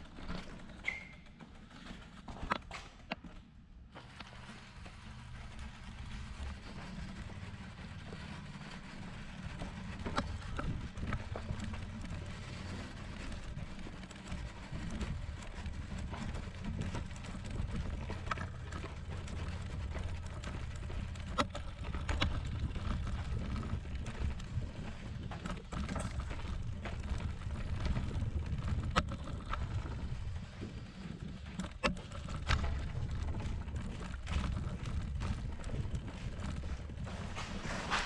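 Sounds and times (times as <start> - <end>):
bicycle clicks and rattles: 0.0 - 38.0
bicycle rolling over sandy ground: 0.0 - 38.0.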